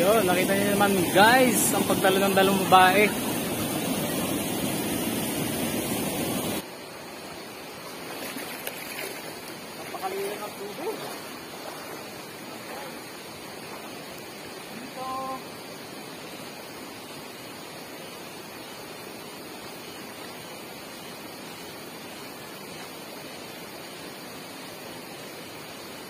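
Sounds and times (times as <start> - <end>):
river water over rocks: 0.0 - 26.0.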